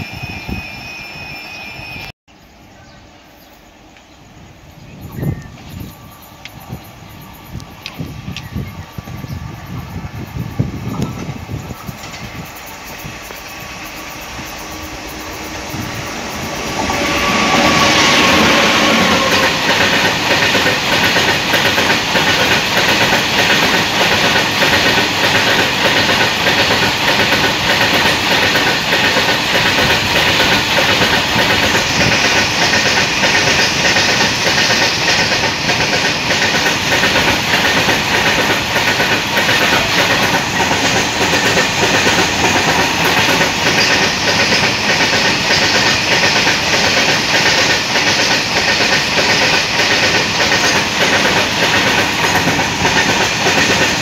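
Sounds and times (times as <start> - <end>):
electric locomotive passing: 0.0 - 54.0.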